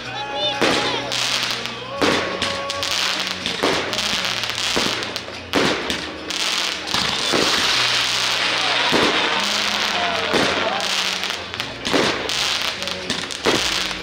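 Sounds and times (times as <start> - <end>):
fireworks bangs: 0.4 - 14.0
crackling of bursting shells: 0.6 - 14.0.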